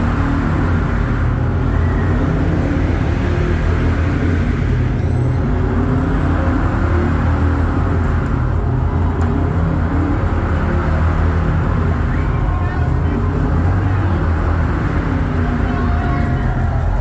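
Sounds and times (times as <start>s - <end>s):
bus engine running: 0.0s - 17.0s
road noise: 0.0s - 17.0s.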